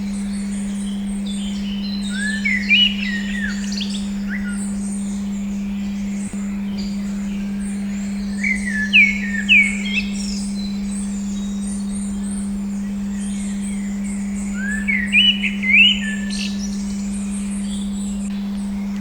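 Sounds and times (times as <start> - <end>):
low steady hum: 0.0 - 19.0
whistled bird notes: 0.2 - 19.0.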